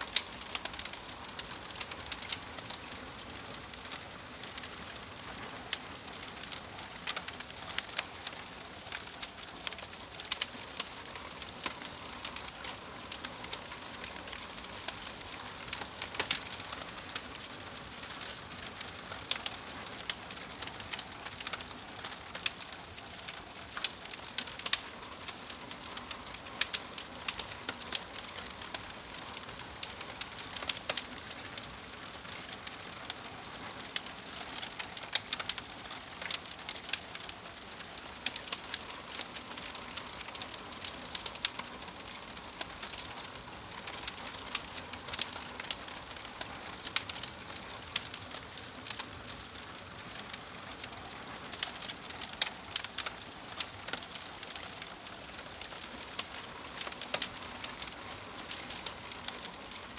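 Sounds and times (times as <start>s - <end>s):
fire crackling: 0.0s - 59.9s
fire hissing: 0.0s - 59.9s.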